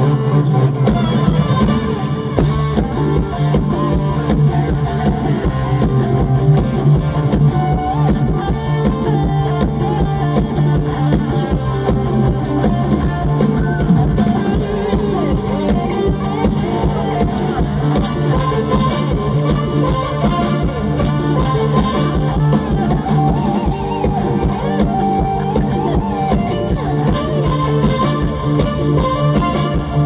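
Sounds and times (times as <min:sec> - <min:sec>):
drum kit beat: 0:00.0 - 0:30.0
electric guitar: 0:00.0 - 0:30.0.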